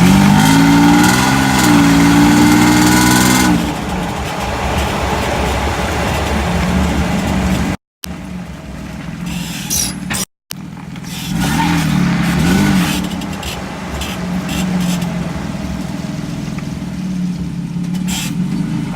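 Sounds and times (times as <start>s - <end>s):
pickup truck engine hum: 0.0s - 18.9s.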